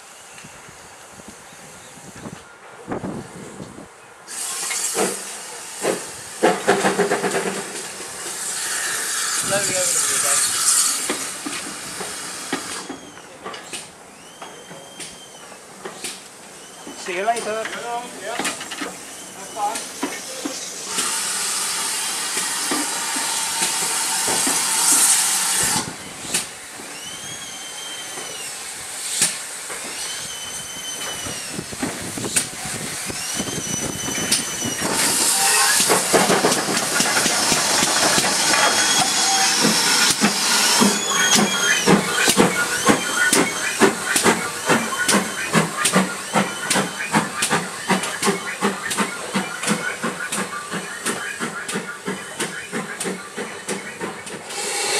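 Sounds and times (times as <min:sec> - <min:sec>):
steam locomotive hissing steam: 0:00.0 - 0:54.9
steam locomotive exhaust beats: 0:03.1 - 0:54.9.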